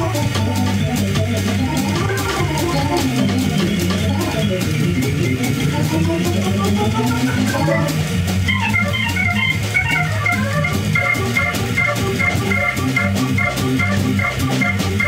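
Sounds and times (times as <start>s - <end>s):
drums on ride cymbal: 0.0s - 15.0s
organ keyboard runs: 0.0s - 15.0s
walking bass line: 0.0s - 15.0s.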